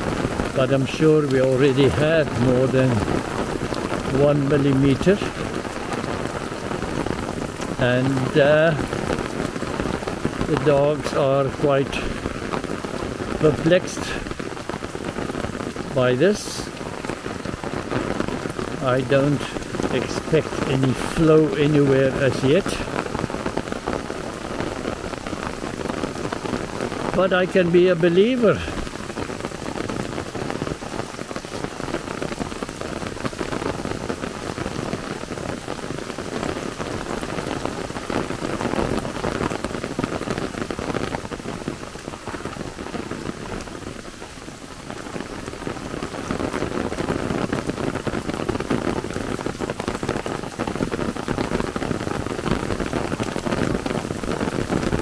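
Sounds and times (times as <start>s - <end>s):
rain pattering on umbrella: 0.0s - 55.0s.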